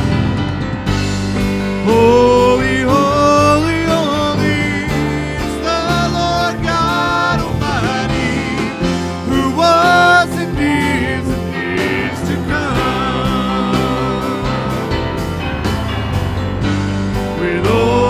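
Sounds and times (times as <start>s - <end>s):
acoustic guitar: 0.0s - 18.0s
keyboard: 0.0s - 18.0s
singers leading worship song: 1.7s - 15.9s, 16.8s - 18.0s.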